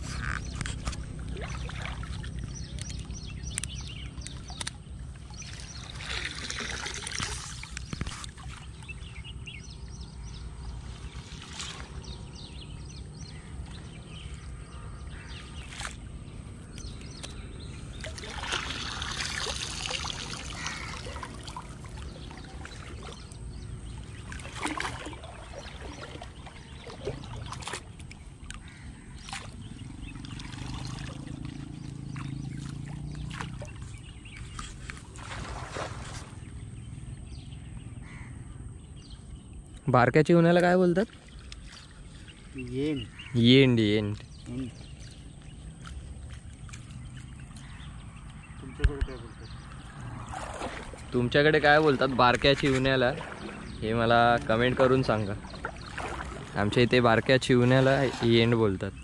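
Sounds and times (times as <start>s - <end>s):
water sloshing and dripping: 0.0s - 38.0s, 38.9s - 59.0s
water splashing: 0.0s - 38.2s, 39.2s - 59.0s.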